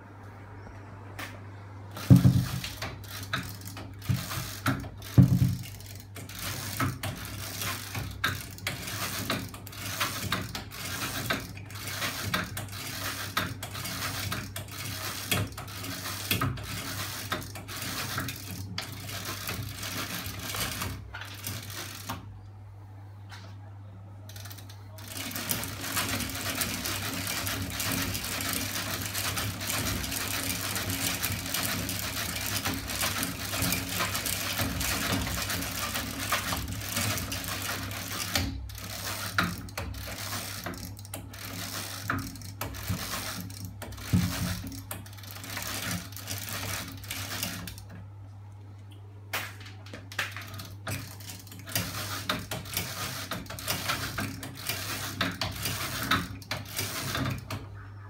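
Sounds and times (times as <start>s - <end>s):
chain and linkage clattering: 1.9s - 22.2s, 24.3s - 48.0s, 50.0s - 57.7s.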